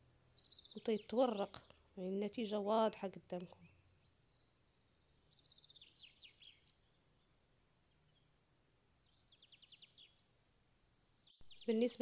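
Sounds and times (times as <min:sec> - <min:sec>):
faint high bird chirps: 0:00.2 - 0:12.0.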